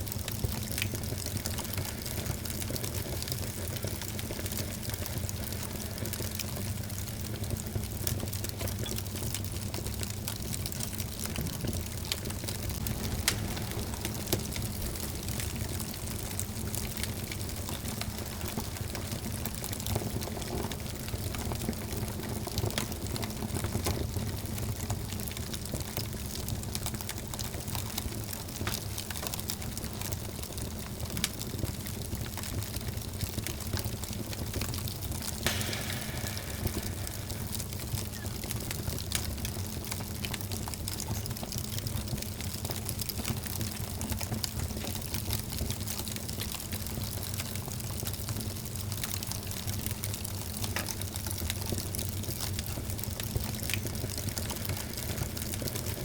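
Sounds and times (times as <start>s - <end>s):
fire crackling and popping: 0.0s - 56.0s
wood fire hissing and rumbling: 0.0s - 56.0s.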